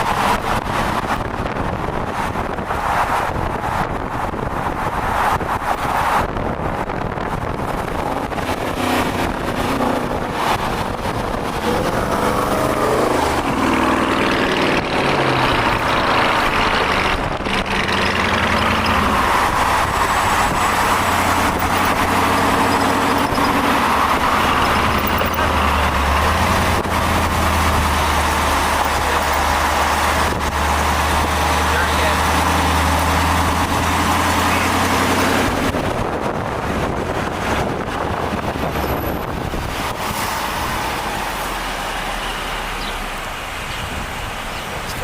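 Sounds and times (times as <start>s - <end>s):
tyre road noise: 0.0s - 45.0s
vehicle engine hum: 0.0s - 45.0s.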